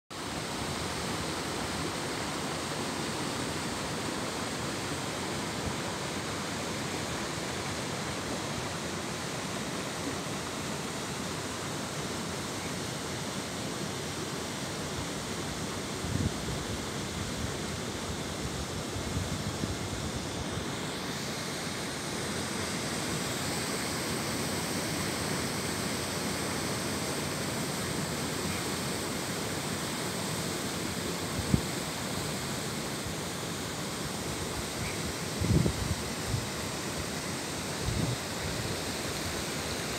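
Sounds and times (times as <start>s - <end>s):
waterfall rushing over rocks: 0.2s - 39.9s.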